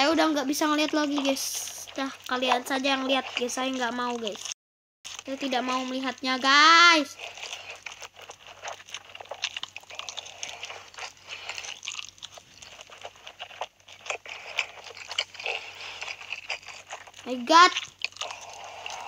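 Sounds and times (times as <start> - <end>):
slurping and chewing noodles: 0.0 - 19.0.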